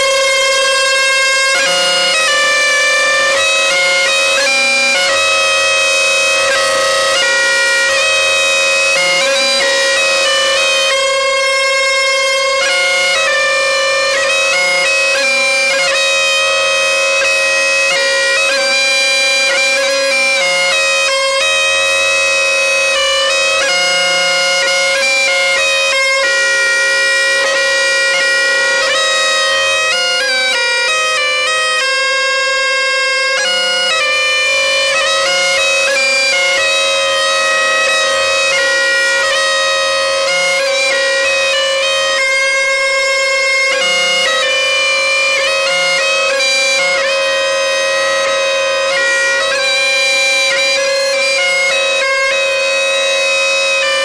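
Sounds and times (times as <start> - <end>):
bagpipe melody over drone: 0.0 - 54.0.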